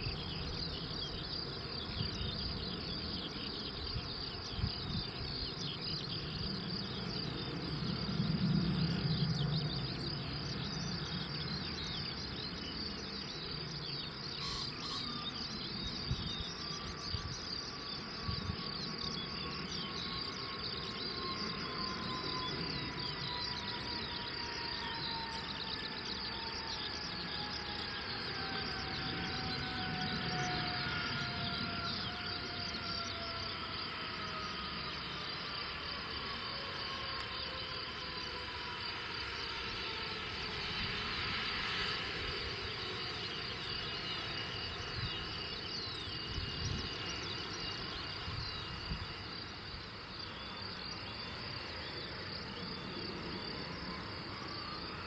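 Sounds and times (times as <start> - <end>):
insects chirping: 0.0 - 55.0
jet engines whining: 0.0 - 55.0.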